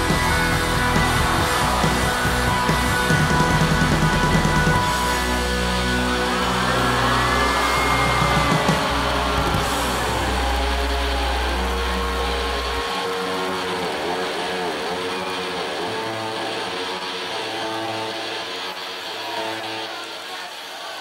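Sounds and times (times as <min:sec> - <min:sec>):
heavy bass drone: 0:00.0 - 0:18.5
distorted guitar tones: 0:00.0 - 0:20.3.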